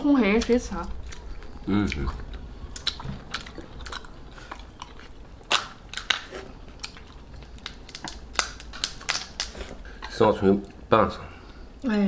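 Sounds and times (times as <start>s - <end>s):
crab shell cracking: 0.3s - 10.2s
person chewing: 0.3s - 10.8s.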